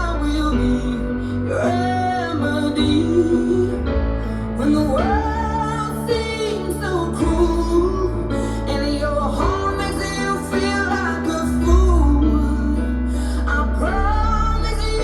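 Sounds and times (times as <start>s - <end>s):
steady musical accompaniment: 0.0s - 15.0s.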